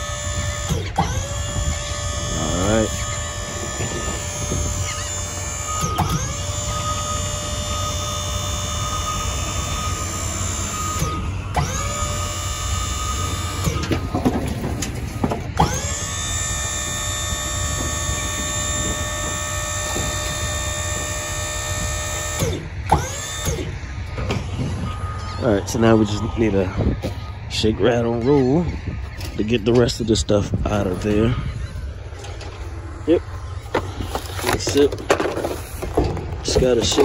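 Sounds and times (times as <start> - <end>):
hydraulic pump motor whining: 0.0 - 37.0.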